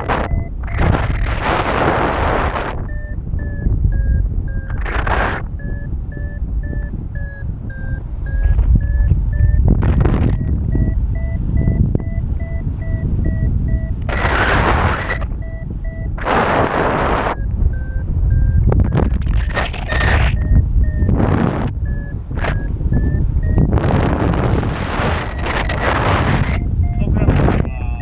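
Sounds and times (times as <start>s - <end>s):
variometer beeping: 0.0s - 28.0s
wind on microphone: 0.0s - 28.0s.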